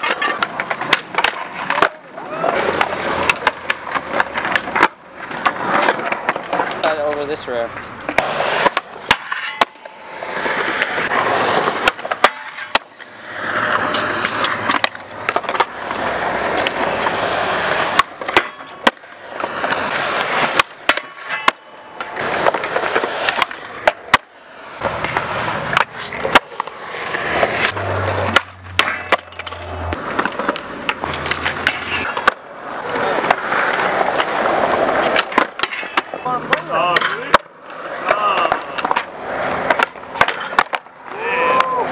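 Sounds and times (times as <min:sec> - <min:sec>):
skateboard wheels rolling on concrete: 0:00.0 - 0:41.9
skateboards clacking: 0:00.0 - 0:41.9.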